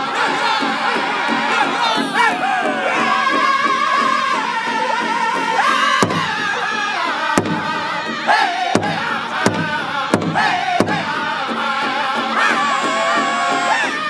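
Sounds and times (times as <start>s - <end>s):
big drum strikes: 0.0s - 14.0s
men singing in high unison: 0.0s - 14.0s.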